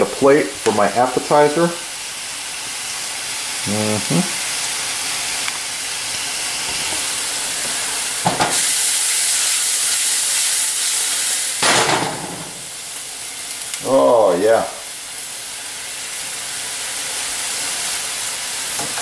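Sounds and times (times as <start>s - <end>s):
mushrooms sizzling in a pan: 0.0s - 19.0s.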